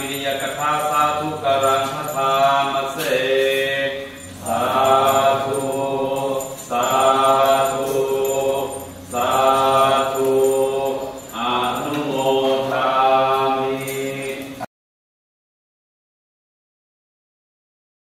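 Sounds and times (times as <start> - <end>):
monks chanting in unison: 0.0 - 14.7.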